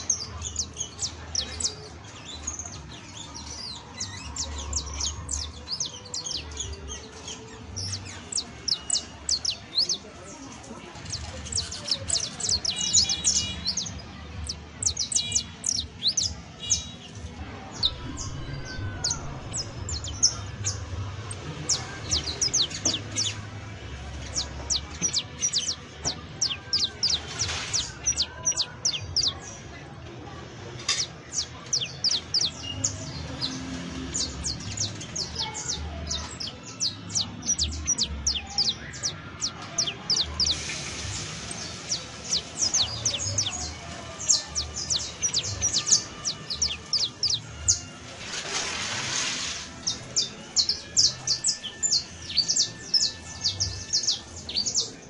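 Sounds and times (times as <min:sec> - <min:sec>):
finch singing high chirps: 0:00.0 - 0:29.7, 0:30.8 - 0:48.3, 0:49.1 - 0:55.0.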